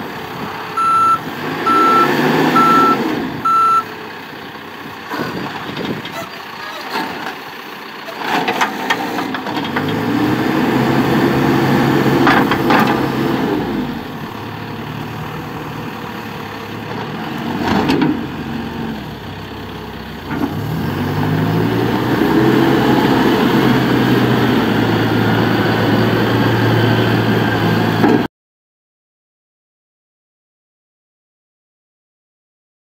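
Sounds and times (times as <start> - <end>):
diesel engine revving: 0.0 - 28.3.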